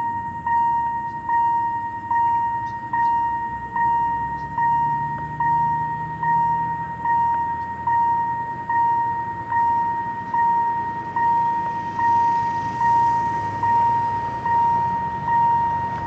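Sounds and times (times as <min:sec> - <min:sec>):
railway warning bell ringing: 0:00.0 - 0:16.0.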